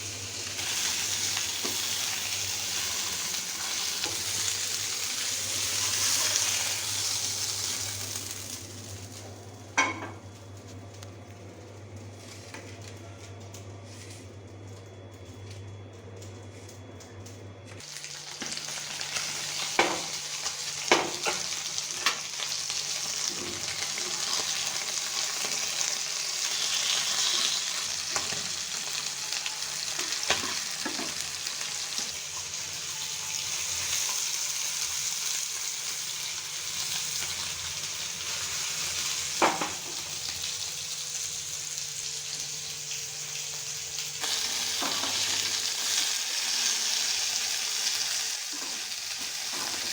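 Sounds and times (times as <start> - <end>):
food sizzling in hot oil: 0.0 - 10.1, 17.8 - 49.9.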